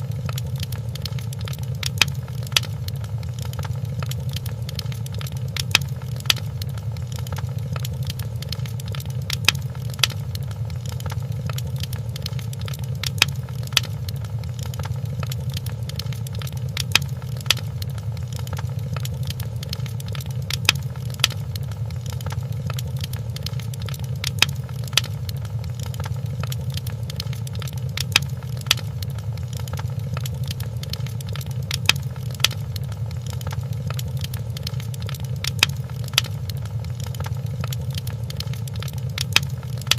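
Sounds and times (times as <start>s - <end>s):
fire crackles and pops: 0.0s - 39.9s
logs burning rumble: 0.0s - 39.9s.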